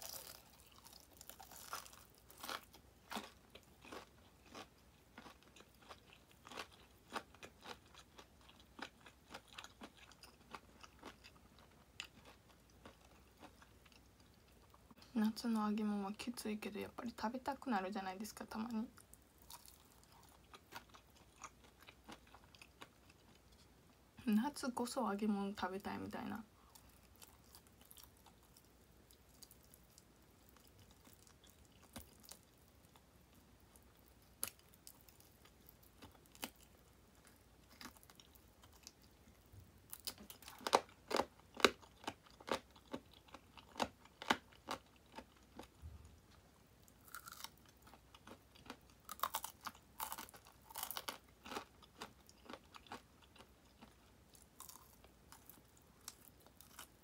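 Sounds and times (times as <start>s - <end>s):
crunchy bites and chewing: 0.0s - 14.8s, 19.4s - 23.6s, 26.7s - 33.0s, 33.7s - 46.2s, 46.8s - 57.0s.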